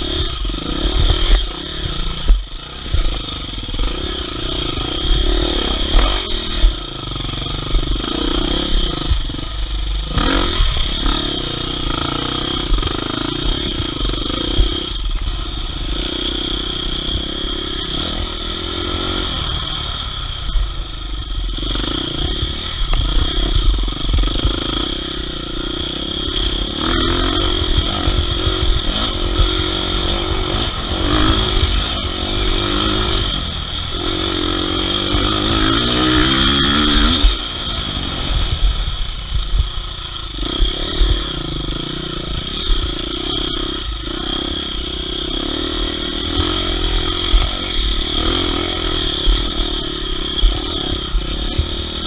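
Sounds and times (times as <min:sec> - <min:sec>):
motorcycle knocks and rattles: 0:00.0 - 0:45.6
motorcycle engine revving: 0:00.0 - 0:52.0.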